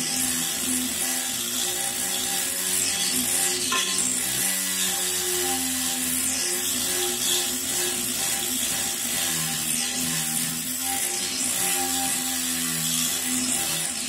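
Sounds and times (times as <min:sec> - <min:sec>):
rotary tool grinding ceramic: 0:00.0 - 0:14.0.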